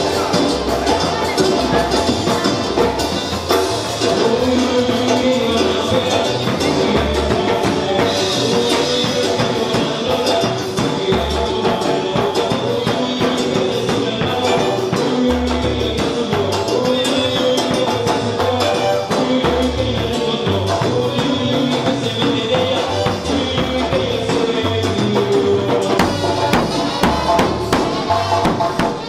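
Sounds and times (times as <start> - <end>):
live band playing dance music: 0.0 - 29.0.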